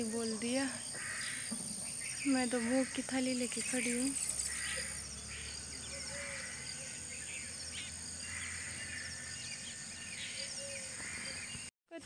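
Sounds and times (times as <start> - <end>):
high insect drone: 0.0 - 11.6
bird chirps: 0.0 - 11.7.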